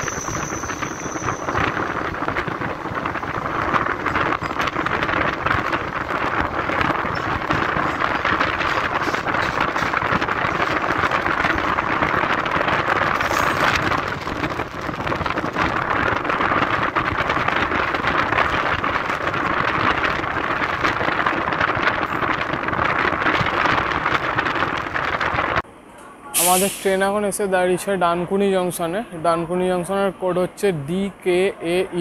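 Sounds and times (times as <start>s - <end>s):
train wheels rumbling on rails: 0.0s - 25.6s.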